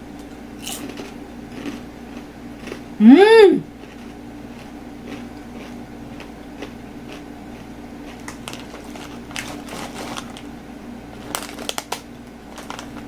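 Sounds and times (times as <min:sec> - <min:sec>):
crunching of chips being chewed: 0:00.6 - 0:03.0, 0:03.7 - 0:10.5, 0:11.2 - 0:13.0.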